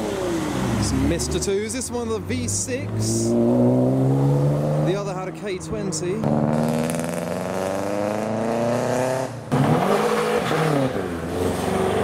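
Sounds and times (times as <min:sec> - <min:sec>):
car engines accelerating away: 0:00.0 - 0:12.0.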